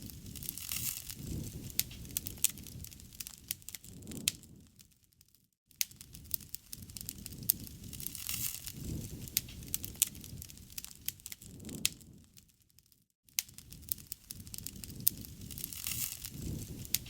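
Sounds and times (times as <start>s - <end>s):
rush of flames: 0.0s - 4.8s, 5.9s - 12.5s, 13.4s - 17.0s
wood fire crackling: 0.0s - 17.0s.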